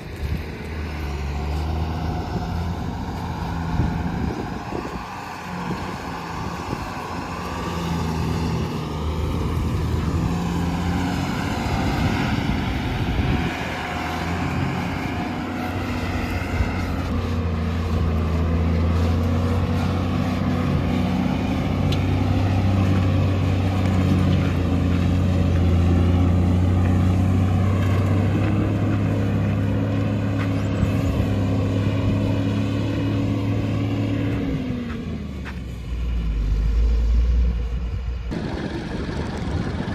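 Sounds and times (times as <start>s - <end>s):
diesel engine working under load: 0.0s - 39.9s.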